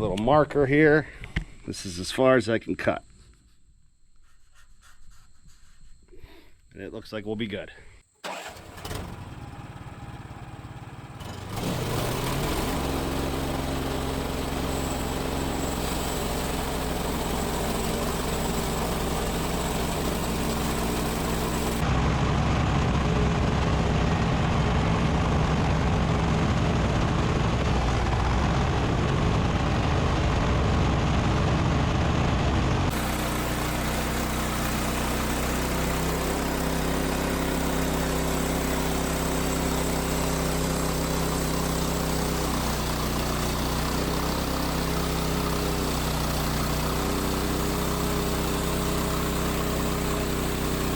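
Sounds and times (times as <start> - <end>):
sawmill engine running: 8.2 - 50.9.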